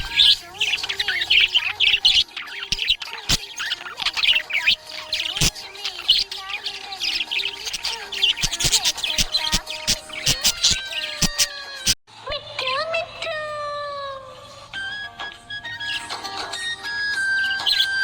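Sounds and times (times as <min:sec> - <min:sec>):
budgerigars chirping and chattering: 0:00.0 - 0:11.8, 0:14.5 - 0:18.0.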